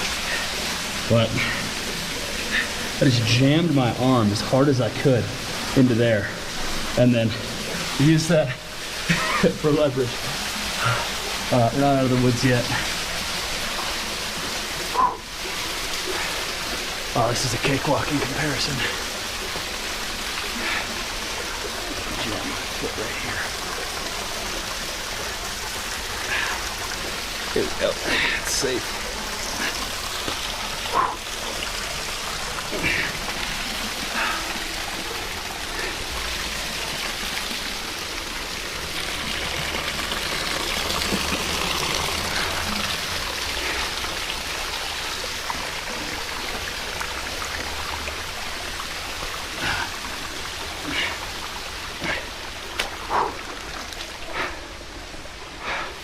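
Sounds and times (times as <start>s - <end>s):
waterfall splashing: 0.0s - 56.0s.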